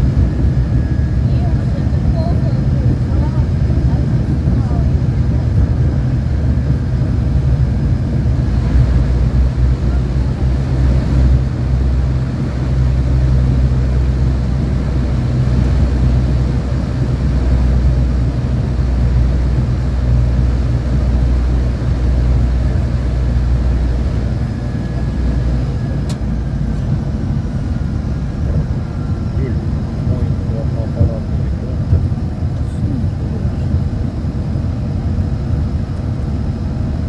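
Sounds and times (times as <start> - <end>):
turboprop cabin drone: 0.0 - 37.0.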